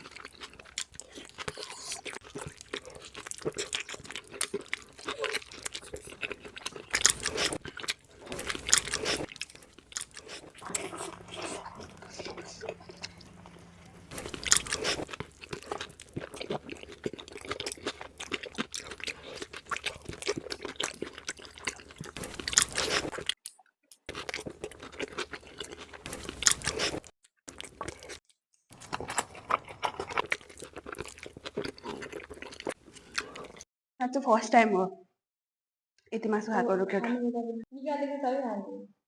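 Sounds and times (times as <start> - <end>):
crunchy chewing: 0.0 - 23.4, 24.0 - 33.6.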